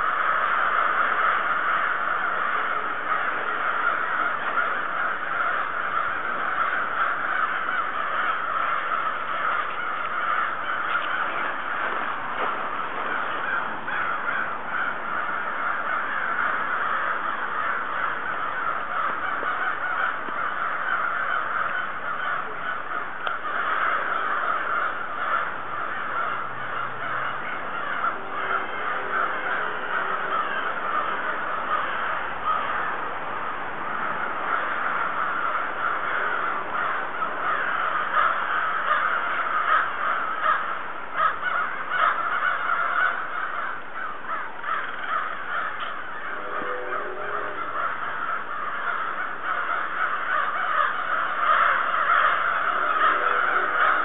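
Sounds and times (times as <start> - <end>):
flock of birds calling: 0.0 - 54.0.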